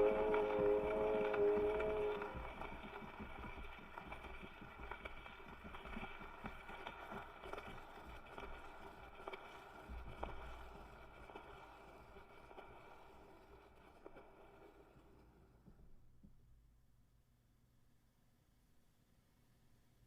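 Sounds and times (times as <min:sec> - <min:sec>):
vinyl record crackles and pops: 0:00.0 - 0:16.4.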